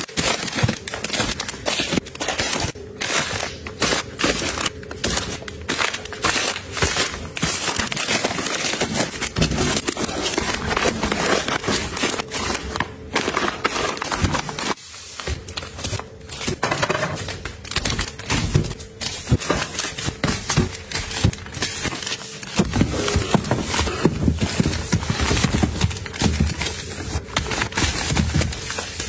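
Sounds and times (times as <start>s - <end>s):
plastic packs crinkling: 0.0s - 29.0s.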